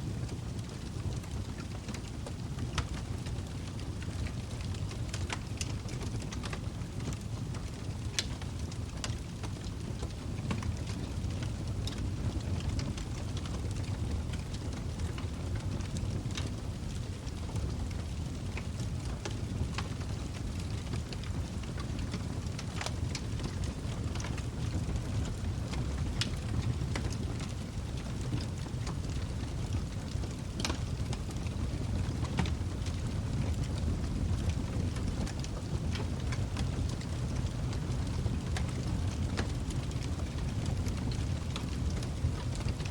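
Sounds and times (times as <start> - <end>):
fire rumbling: 0.0 - 42.9
wood crackling and popping: 0.1 - 42.9.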